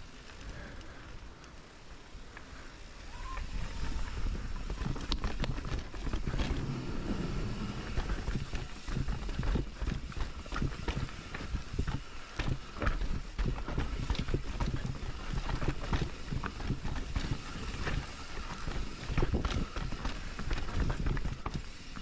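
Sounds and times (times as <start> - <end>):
bike knocking and rattling: 0.0 - 22.0
bike tyres rumbling over stones: 0.0 - 22.0
wind noise: 2.9 - 22.0.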